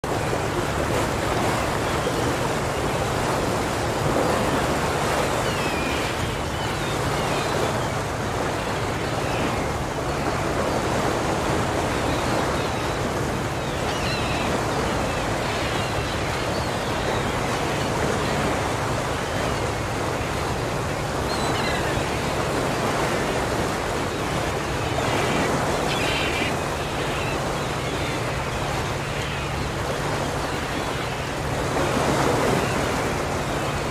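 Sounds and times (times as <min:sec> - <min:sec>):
surf-like water noise: 0:00.0 - 0:33.9.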